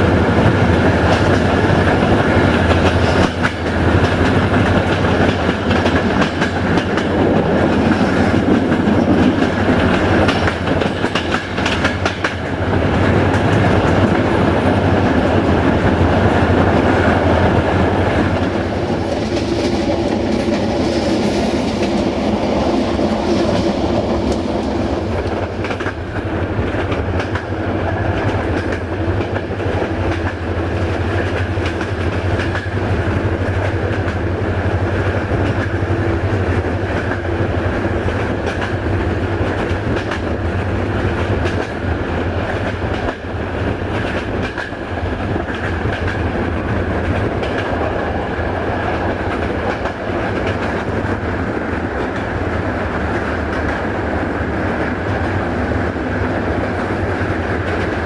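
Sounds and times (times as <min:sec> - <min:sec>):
clickety-clack over rail joints: 0:00.0 - 0:58.0
train wheels rumbling on track: 0:00.0 - 0:58.0.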